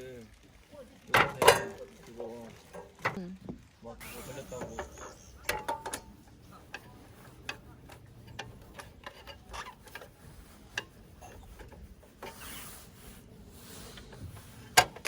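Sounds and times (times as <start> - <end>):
soft rubbing and rustling: 0.0 - 15.0.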